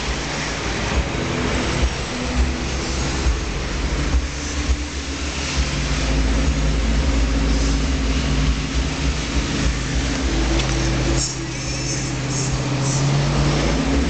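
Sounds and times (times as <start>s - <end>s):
off-road vehicle engine under load: 0.0s - 14.0s
wind and tyre noise: 0.0s - 14.0s.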